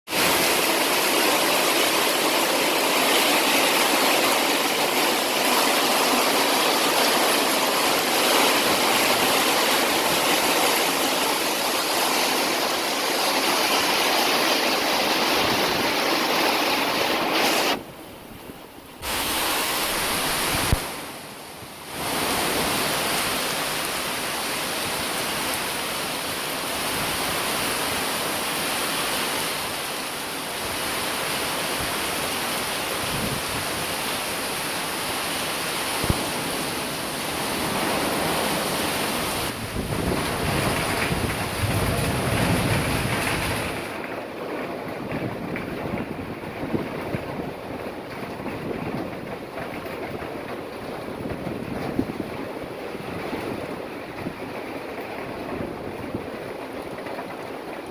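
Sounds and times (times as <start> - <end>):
heavy rain in strong wind: 0.1 - 57.9.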